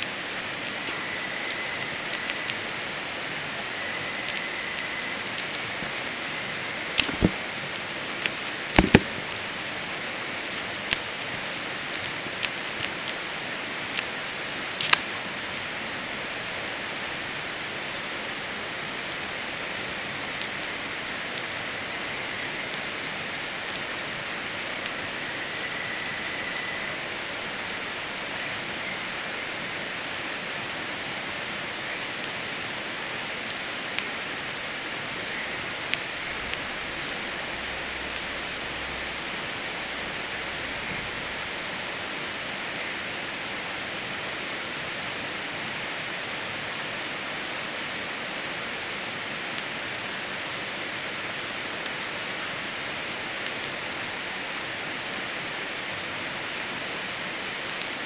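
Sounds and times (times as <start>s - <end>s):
campfire crackling: 0.0s - 46.5s, 47.7s - 58.0s.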